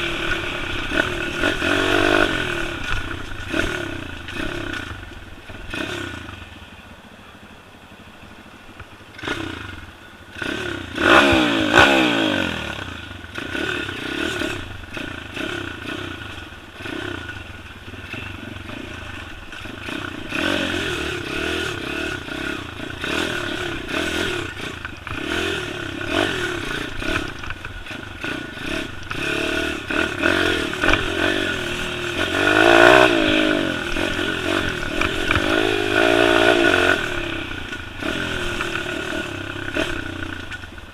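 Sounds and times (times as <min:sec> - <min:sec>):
pit bike engine revving: 0:00.0 - 0:06.7, 0:09.0 - 0:40.9.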